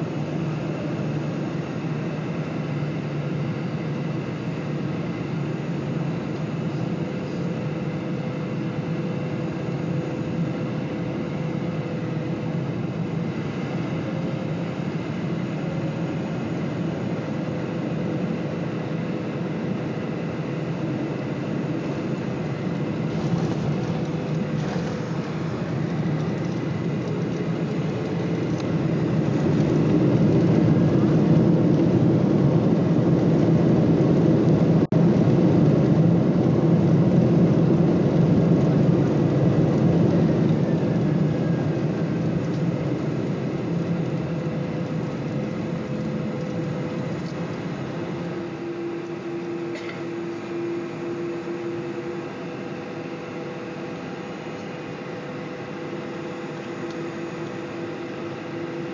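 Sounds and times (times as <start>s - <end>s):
faint steady whine: 0.0s - 58.9s
jet engines and landing rollout: 0.0s - 58.9s.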